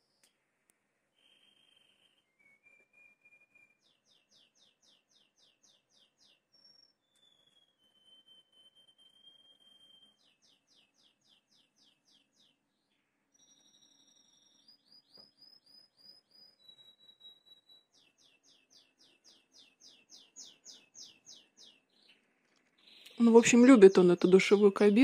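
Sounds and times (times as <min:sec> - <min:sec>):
bird whistles and trills: 0:01.2 - 0:12.6, 0:13.3 - 0:22.2.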